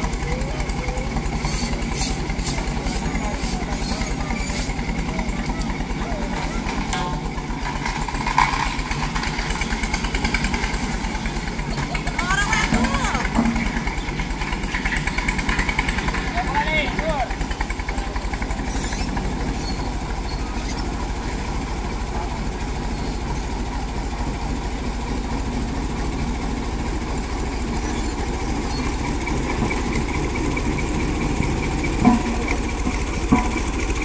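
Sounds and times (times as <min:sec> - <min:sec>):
road roller engine idling: 0:00.0 - 0:34.0.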